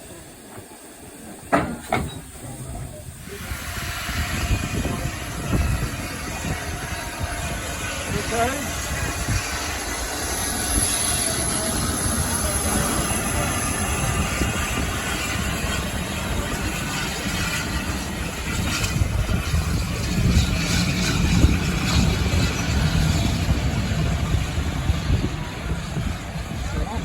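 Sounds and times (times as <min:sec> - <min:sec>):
train wheel and engine noise: 0:00.0 - 0:27.0.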